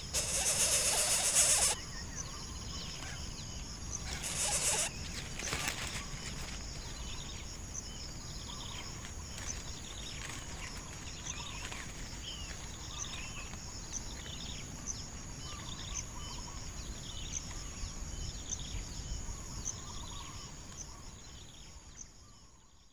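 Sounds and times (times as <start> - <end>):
small birds chirping: 0.0 - 22.7
insect drone: 0.0 - 22.9.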